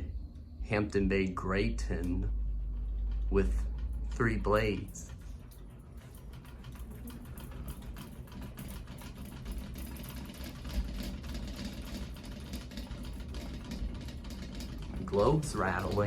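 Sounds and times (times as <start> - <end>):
ceiling fan hum: 0.0 - 16.0
light globe rattling: 2.2 - 16.0.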